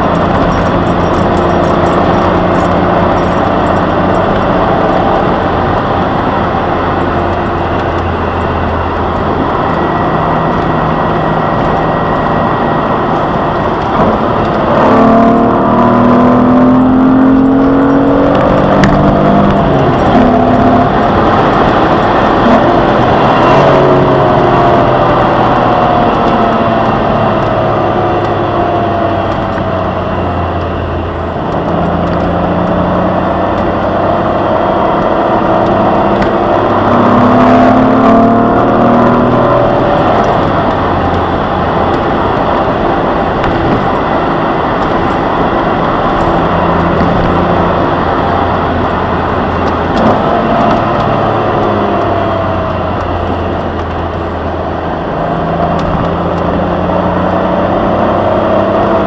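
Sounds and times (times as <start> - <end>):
car engine while driving: 0.0 - 59.0
tyre and road noise: 0.0 - 59.0.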